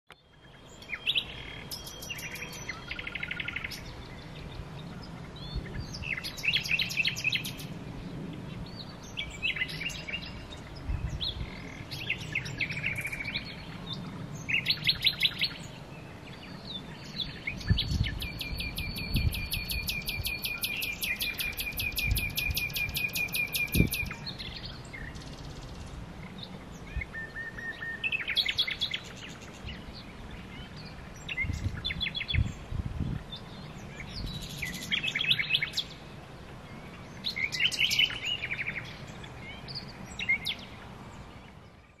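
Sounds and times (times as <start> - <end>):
nightingale singing: 0.1 - 7.8, 8.6 - 36.0, 36.6 - 42.0.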